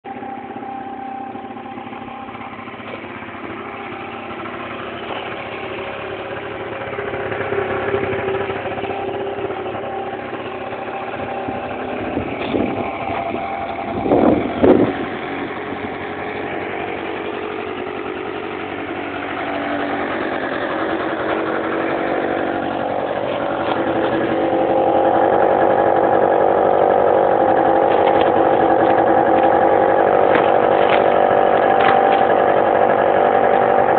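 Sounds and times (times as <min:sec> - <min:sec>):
scooter engine running and revving: 0:00.0 - 0:33.9.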